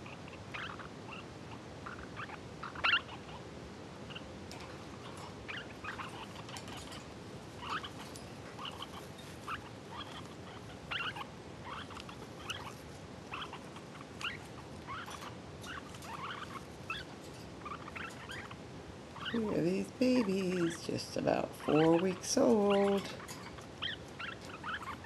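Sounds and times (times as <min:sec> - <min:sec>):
parakeets squeaky chirping: 0:00.0 - 0:03.5, 0:04.1 - 0:25.0.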